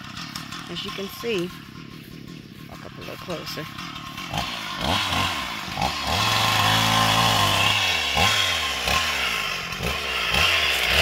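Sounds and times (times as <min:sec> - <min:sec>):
chainsaw revving: 0:00.0 - 0:11.0.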